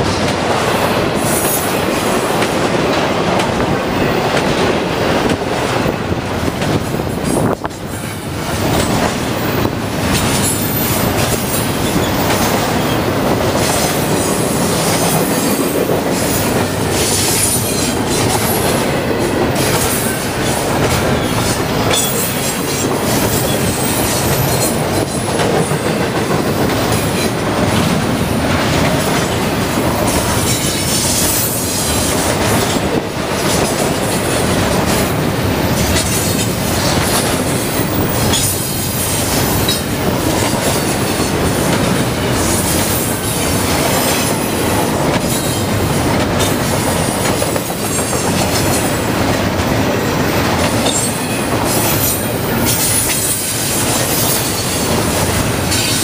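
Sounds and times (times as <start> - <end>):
freight train wheels rumbling: 0.0 - 56.0
wheels clacking on rail joints: 0.0 - 56.0.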